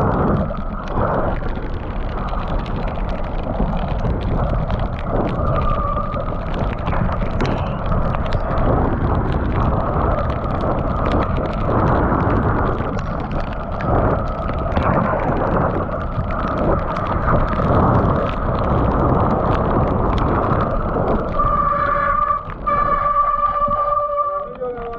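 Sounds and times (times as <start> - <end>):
bike chain and frame rattling: 0.0 - 21.3
bike tyres on wet dirt: 0.0 - 24.9
loud constant rumble: 0.0 - 24.9.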